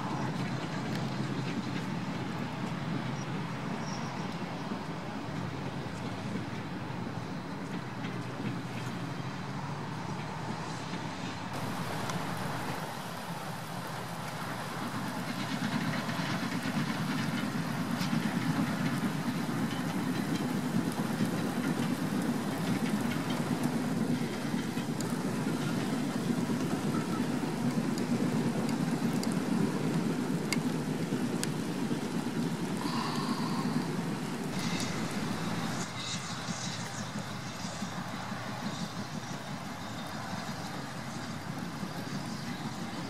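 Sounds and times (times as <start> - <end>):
steam locomotive exhaust beat: 0.0 - 43.0
train rumble: 0.0 - 43.0.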